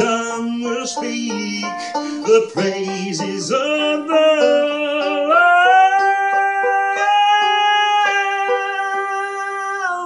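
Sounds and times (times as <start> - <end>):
banjo picking: 0.0 - 10.0
man singing long high note: 0.0 - 10.0.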